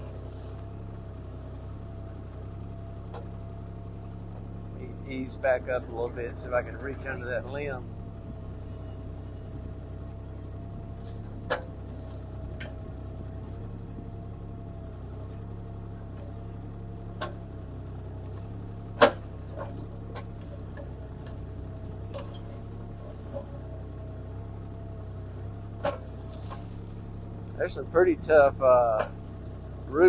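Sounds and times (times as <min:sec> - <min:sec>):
excavator engine drone: 0:00.0 - 0:30.0.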